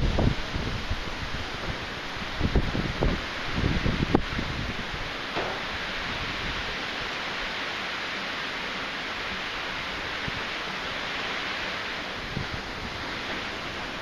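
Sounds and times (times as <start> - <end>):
low rumble of wind buffeting: 0.0 - 14.0
typhoon wind rushing: 0.0 - 14.0.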